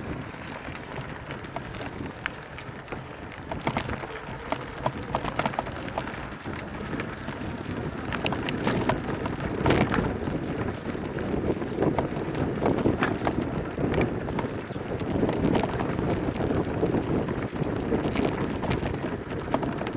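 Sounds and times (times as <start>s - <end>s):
bike tyres rolling over rocky trail: 0.0s - 19.9s
stones and bike rattling: 0.0s - 19.9s.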